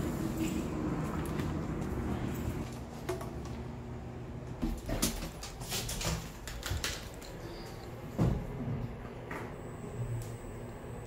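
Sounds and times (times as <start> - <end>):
low elevator hum: 0.0 - 5.4, 7.1 - 11.0.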